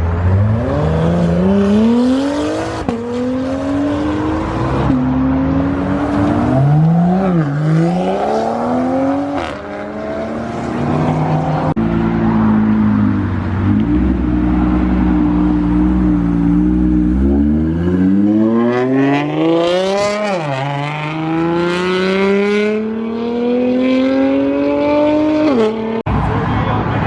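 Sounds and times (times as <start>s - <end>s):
sports car accelerating hard: 0.2s - 26.0s.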